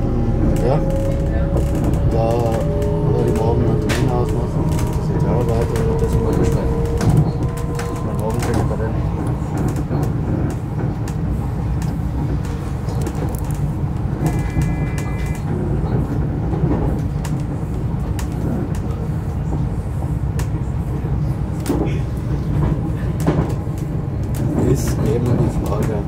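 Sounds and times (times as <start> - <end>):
train clicks and rattles: 0.0 - 26.0
train rumbling: 0.0 - 26.0.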